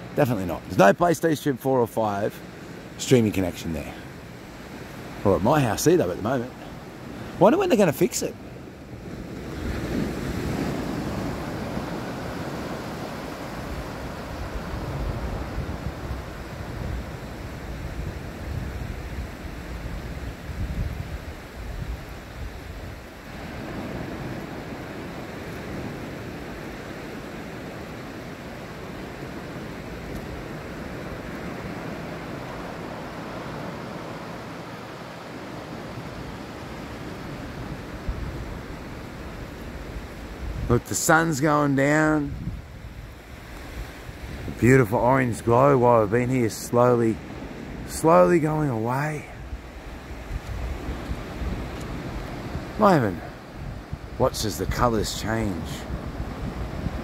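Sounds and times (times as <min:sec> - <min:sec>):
surf washing up a beach: 0:00.0 - 0:57.0
wind rumbling on microphone: 0:08.9 - 0:40.9, 0:42.0 - 0:46.2, 0:47.1 - 0:57.0.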